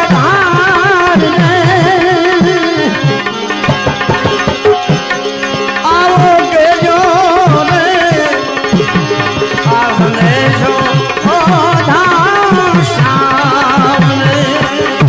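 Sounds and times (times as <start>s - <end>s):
tabla with sliding bass strokes: 0.0s - 15.0s
wavering instrumental melody: 0.0s - 15.0s.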